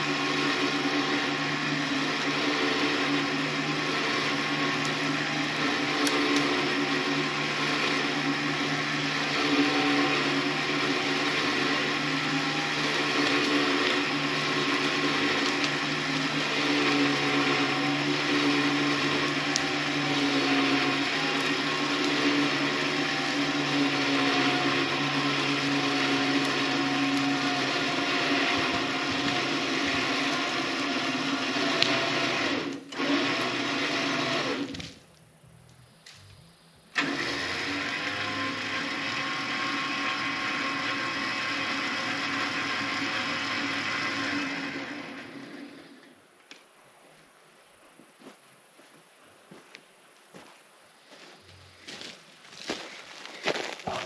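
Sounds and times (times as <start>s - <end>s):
electric winch motor whining: 0.0s - 35.1s, 36.1s - 46.3s.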